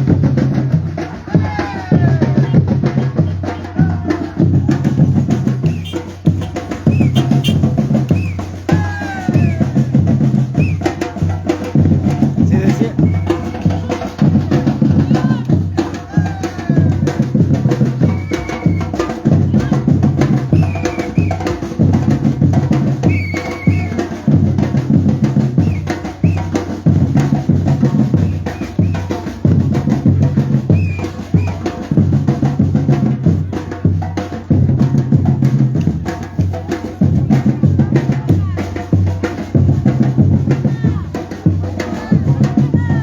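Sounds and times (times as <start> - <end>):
bass drums beating: 0.0 - 43.0
rapid snare drum strokes: 0.0 - 43.0.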